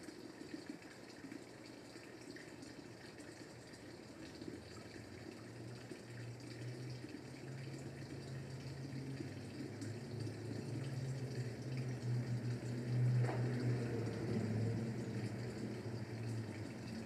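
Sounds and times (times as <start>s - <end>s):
steady low hum: 2.6s - 17.0s.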